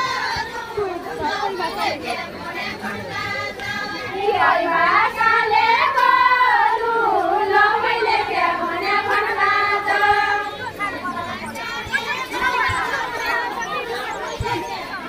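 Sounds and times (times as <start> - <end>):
women singing folk song: 0.0 - 15.0.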